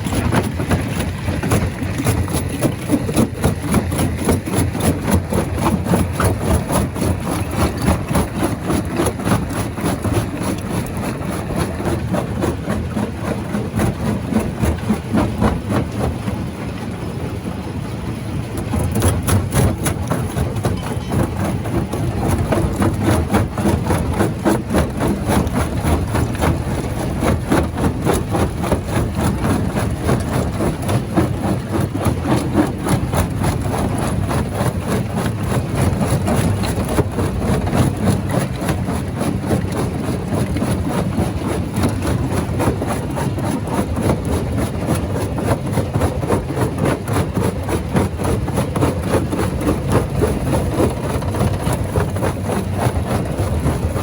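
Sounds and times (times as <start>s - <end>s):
rock crusher rumbling: 0.0s - 54.0s.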